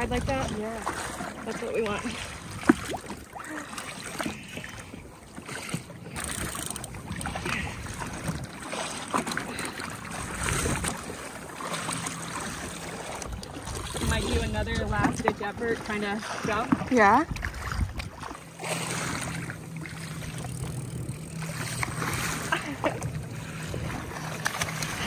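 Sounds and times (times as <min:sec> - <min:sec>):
choppy water slapping: 0:00.0 - 0:25.0
wind: 0:00.0 - 0:25.0.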